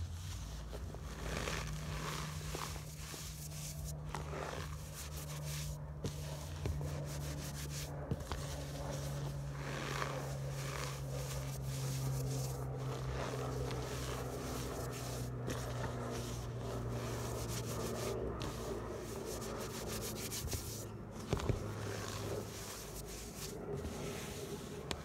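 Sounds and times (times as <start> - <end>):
hands crunching floral foam: 0.0 - 24.6.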